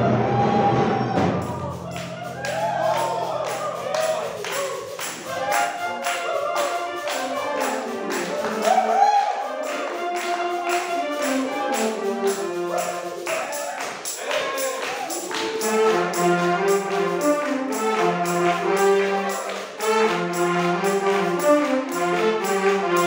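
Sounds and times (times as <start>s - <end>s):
saxophones and brass band playing: 0.0s - 23.0s
steady percussion beat: 0.9s - 23.0s.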